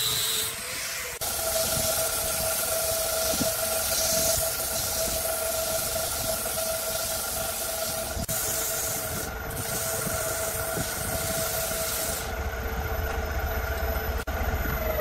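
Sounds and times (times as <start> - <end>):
sandpaper hissing on wood: 0.0 - 12.3.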